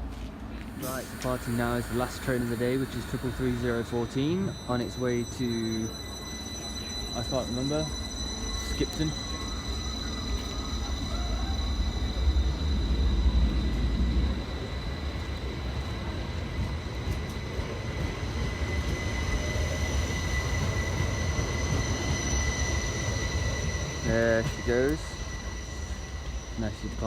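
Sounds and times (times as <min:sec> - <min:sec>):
train low rumble: 0:00.0 - 0:27.0
high-pitched electric whine: 0:00.7 - 0:17.3, 0:18.3 - 0:27.0.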